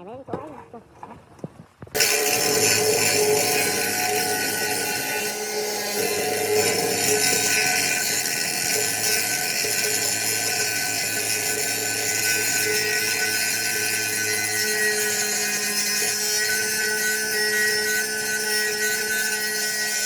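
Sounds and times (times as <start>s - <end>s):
small motorised hand tool running: 2.0s - 20.0s.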